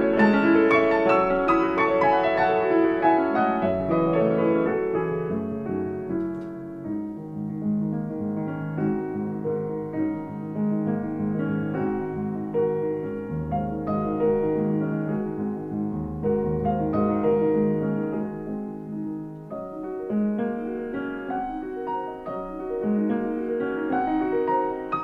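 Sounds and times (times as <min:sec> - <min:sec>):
solo piano music: 0:00.0 - 0:25.0.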